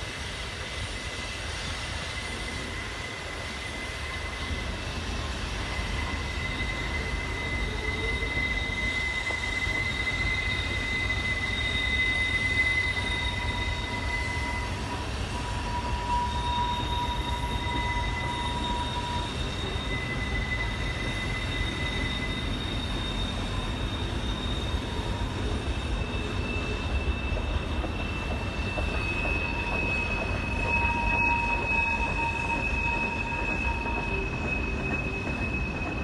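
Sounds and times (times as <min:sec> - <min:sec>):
train wheels rumbling on rails: 0:00.0 - 0:36.0
wheel flange squeals: 0:00.1 - 0:36.0.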